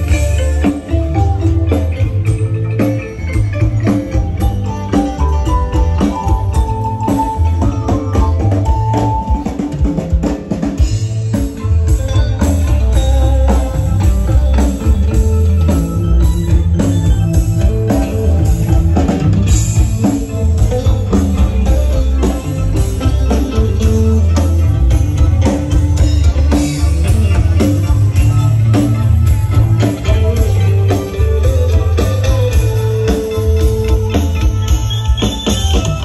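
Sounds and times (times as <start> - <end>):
heavy bass: 0.0 - 9.5, 10.2 - 36.0
drum kit: 0.0 - 36.0
electric guitar: 0.0 - 36.0
live dance band playing: 0.0 - 36.0.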